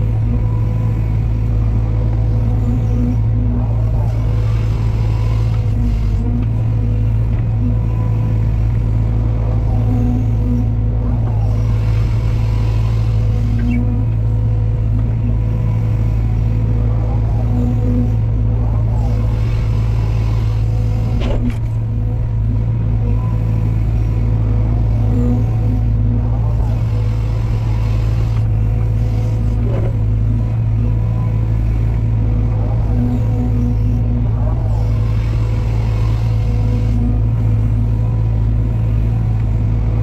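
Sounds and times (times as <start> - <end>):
heavy machine engine running: 0.0 - 40.0.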